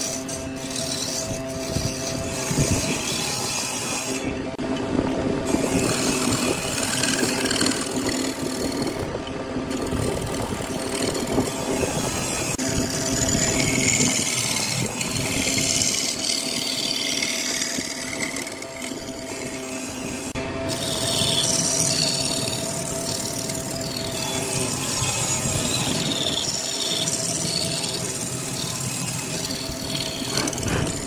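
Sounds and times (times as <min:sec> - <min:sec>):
tool scraping spinning wood: 0:00.0 - 0:04.6, 0:05.4 - 0:31.0
lathe motor humming: 0:00.0 - 0:31.0.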